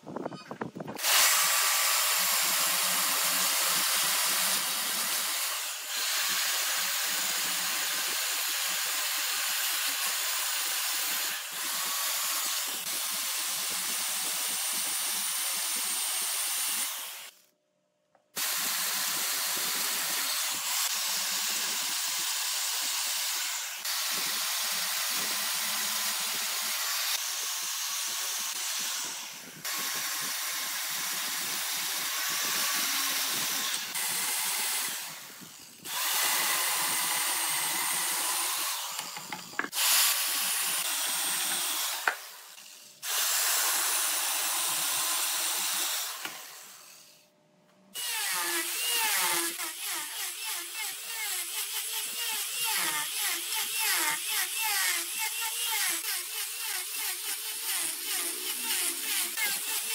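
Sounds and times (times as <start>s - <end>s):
lathe tool shaving wood: 1.0s - 17.3s, 18.4s - 47.1s, 48.0s - 59.9s.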